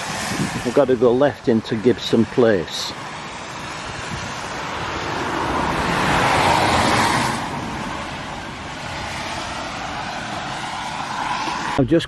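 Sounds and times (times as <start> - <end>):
car passing by: 0.0 - 12.0.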